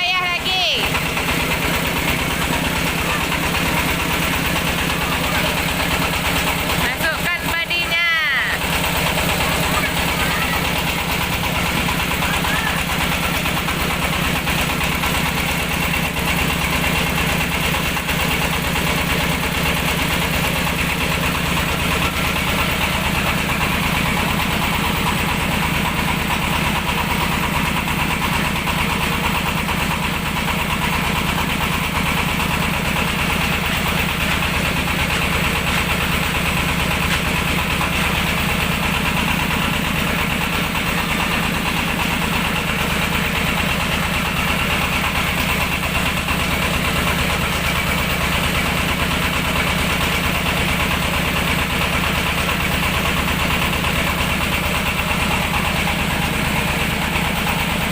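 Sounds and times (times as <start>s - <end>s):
rice milling machine droning: 0.0s - 57.9s.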